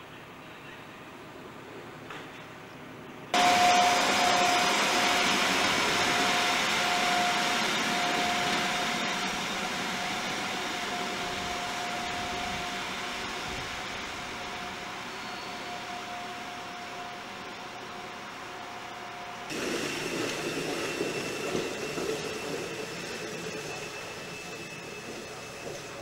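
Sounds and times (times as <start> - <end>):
train rushing noise: 1.2 - 26.0
locomotive whine: 2.7 - 26.0.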